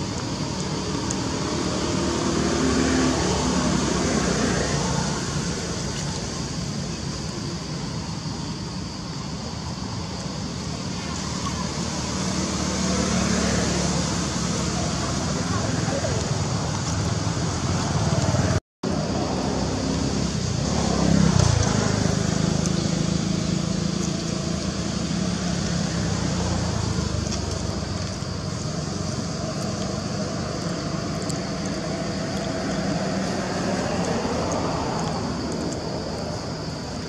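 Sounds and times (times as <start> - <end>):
vehicle engine humming past: 0.0 - 37.0.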